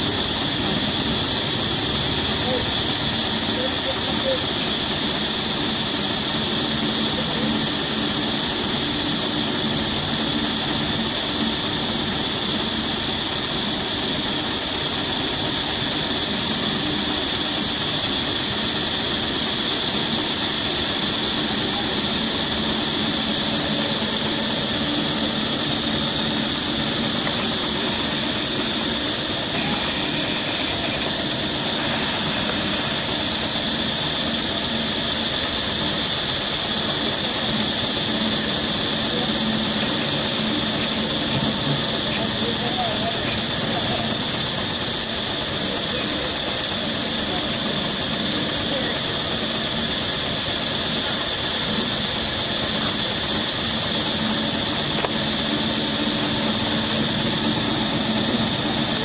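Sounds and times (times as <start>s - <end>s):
high-pitched insect chorus: 0.0s - 59.0s
hiss: 0.0s - 59.0s.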